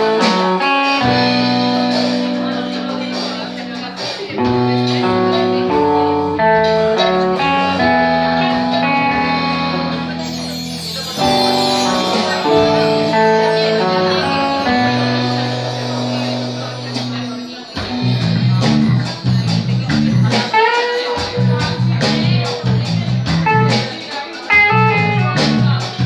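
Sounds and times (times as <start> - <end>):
live band playing: 0.0 - 26.0.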